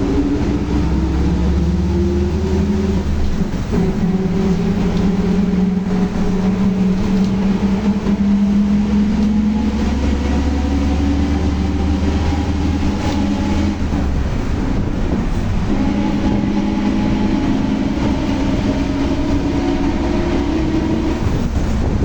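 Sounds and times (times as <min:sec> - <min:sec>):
bus differential whine: 0:00.0 - 0:22.0
drivetrain rumble: 0:00.0 - 0:22.0.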